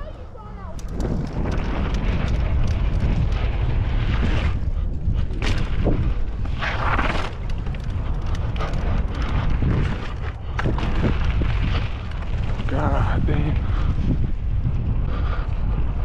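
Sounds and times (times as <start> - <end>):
bike clicks and rattles: 0.0 - 16.0
bike tyres on dirt: 0.0 - 16.0
wind rumbling on microphone: 0.0 - 16.0.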